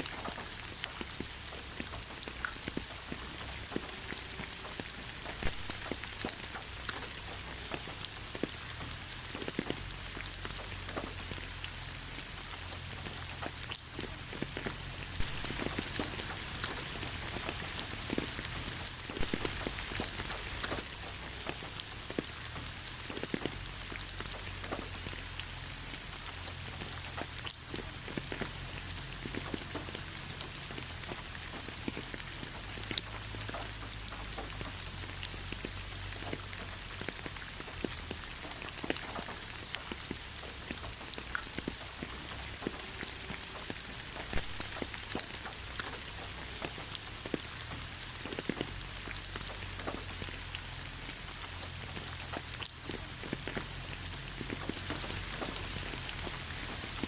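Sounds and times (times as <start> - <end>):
rain falling: 0.0 - 57.0
raindrop hits: 0.0 - 57.0.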